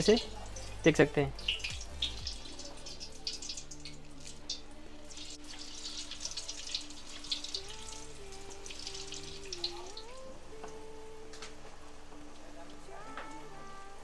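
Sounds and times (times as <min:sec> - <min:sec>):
deep-frying sizzle: 0:00.0 - 0:14.0
soft background music: 0:00.0 - 0:14.0.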